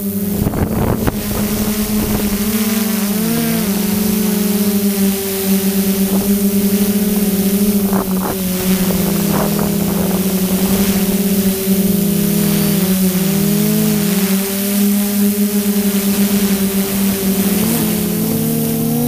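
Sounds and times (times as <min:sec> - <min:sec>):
drone propellers buzzing: 0:00.0 - 0:19.0
steady hiss: 0:00.0 - 0:19.0.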